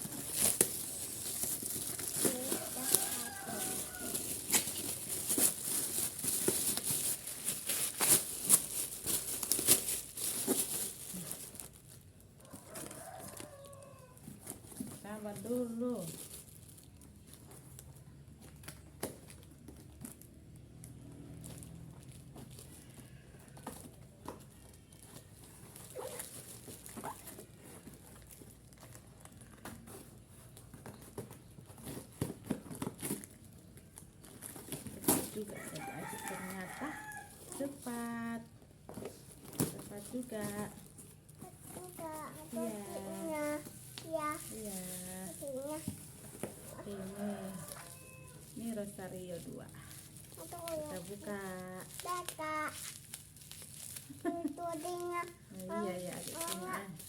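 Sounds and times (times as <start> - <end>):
parcel wrapping crinkling and tearing: 0.0 - 57.0.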